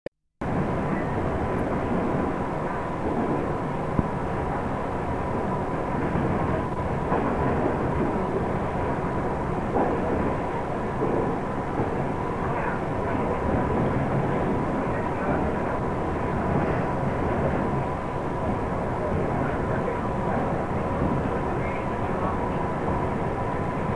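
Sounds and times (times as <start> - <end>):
passenger train running: 0.4 - 23.9.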